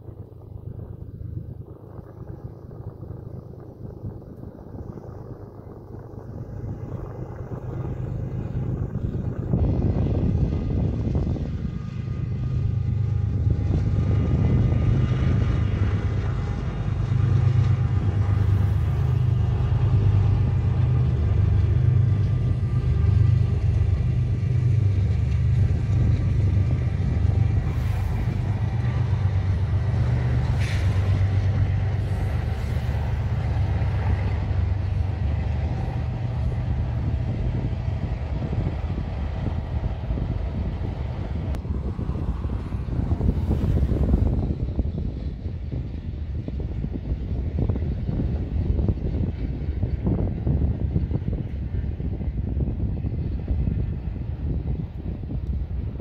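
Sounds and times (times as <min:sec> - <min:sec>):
diesel locomotive engine drone: 0:00.0 - 0:56.0
freight cars rolling on rails: 0:00.0 - 0:56.0.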